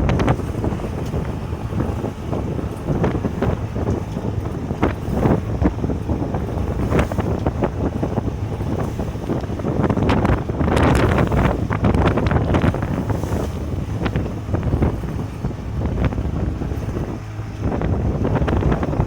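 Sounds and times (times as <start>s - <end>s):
waves washing past hull: 0.0s - 19.0s
wind buffeting microphone: 0.0s - 19.0s.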